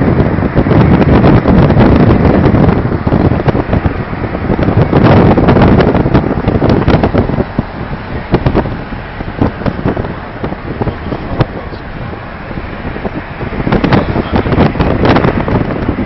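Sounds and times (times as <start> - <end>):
car road and engine noise: 0.0 - 16.0
wind buffeting microphone: 0.0 - 16.0.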